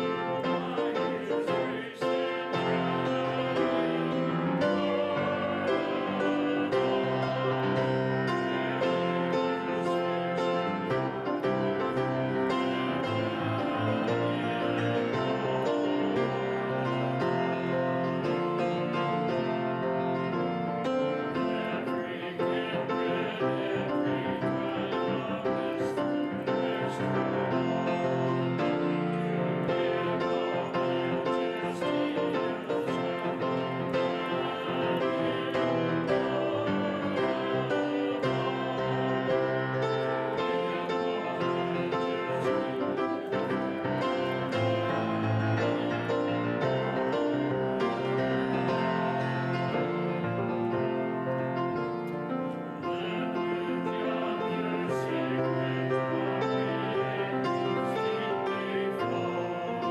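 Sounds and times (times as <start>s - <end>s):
grand piano playing: 0.0s - 59.9s.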